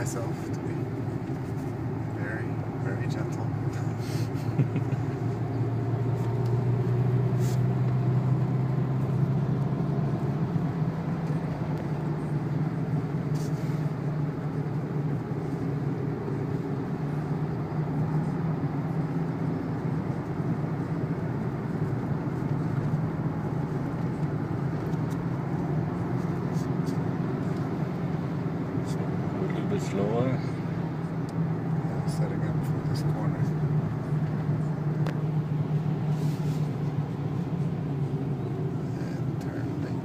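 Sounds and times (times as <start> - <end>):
car engine droning: 0.0 - 40.0
tyre and road noise: 0.0 - 40.0.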